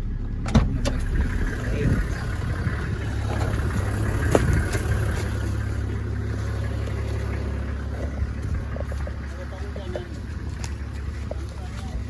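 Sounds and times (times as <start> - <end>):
engine running with low hum: 0.0 - 12.0.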